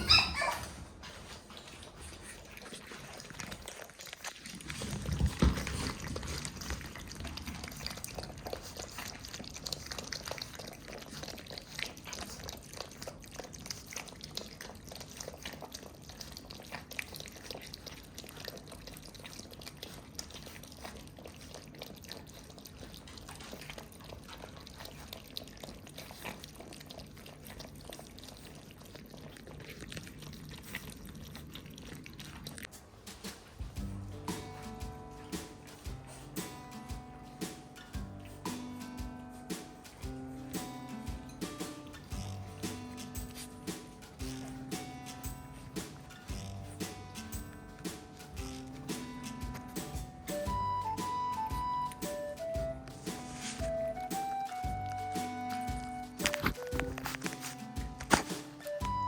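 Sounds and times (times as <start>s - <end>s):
puppies scuffling and clicking: 0.0s - 59.0s.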